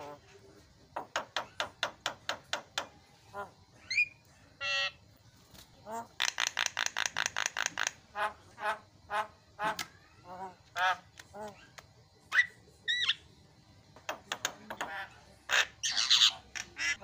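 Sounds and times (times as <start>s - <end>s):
myna bird calling: 1.0s - 5.0s, 5.8s - 13.3s, 14.0s - 17.0s.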